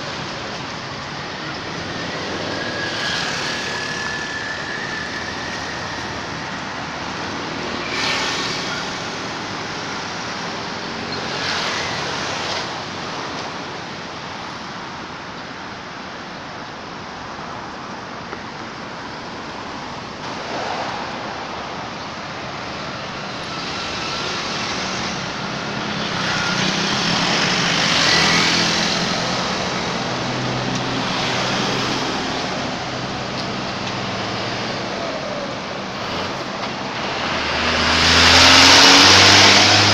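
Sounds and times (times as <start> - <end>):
passing vehicles hissing: 0.0 - 39.9.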